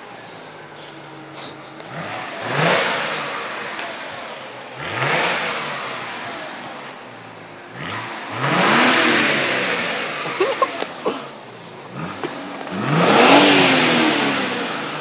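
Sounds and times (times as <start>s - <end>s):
car engine revving: 0.0s - 15.0s
loud exhaust rush: 0.0s - 15.0s.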